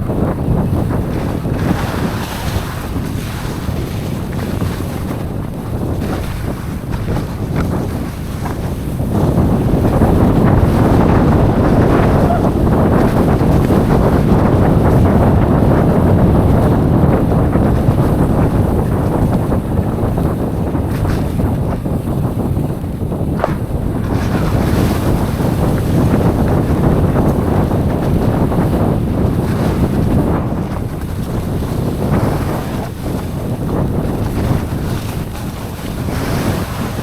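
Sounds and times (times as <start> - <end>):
tyres rumbling on dirt trail: 0.0 - 37.0
wind rushing over microphone: 0.0 - 37.0.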